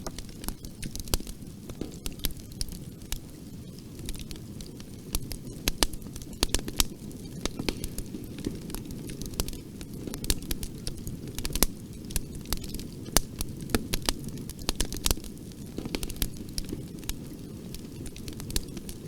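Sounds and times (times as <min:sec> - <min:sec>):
flames rumbling: 0:00.0 - 0:19.0
wood crackling and popping: 0:00.0 - 0:19.0.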